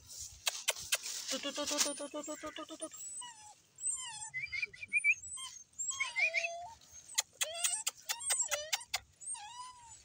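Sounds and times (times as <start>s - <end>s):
puppies whining: 1.6s - 10.0s
puppies yelping: 1.7s - 10.0s.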